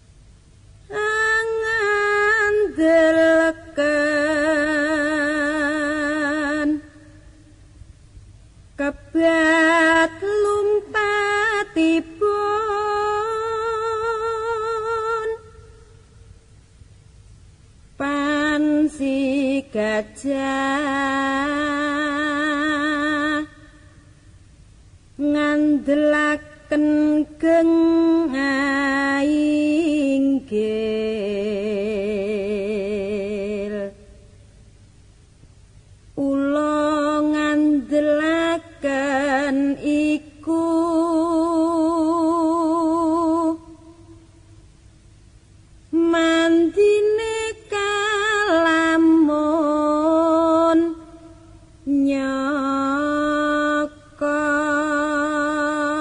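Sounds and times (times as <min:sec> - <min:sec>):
person singing unaccompanied: 0:00.8 - 0:07.6, 0:08.7 - 0:16.2, 0:17.9 - 0:23.9, 0:25.1 - 0:34.3, 0:36.1 - 0:44.4, 0:45.8 - 0:56.0.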